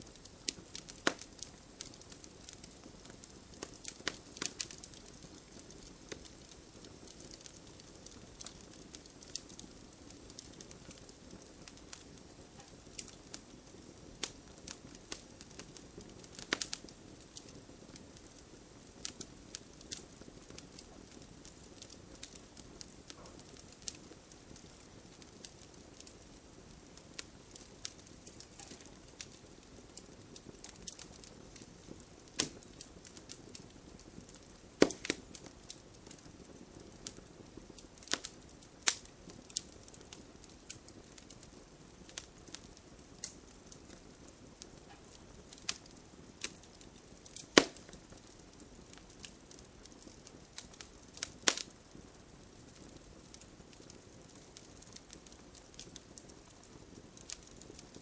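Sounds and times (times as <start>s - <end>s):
soft steady hiss: 0.0s - 58.0s
wood fire crackling: 0.0s - 58.0s.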